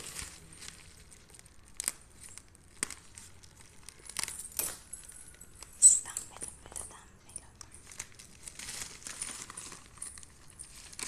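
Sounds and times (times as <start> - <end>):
plastic mailer bag crinkling: 0.0 - 5.6, 7.6 - 11.0.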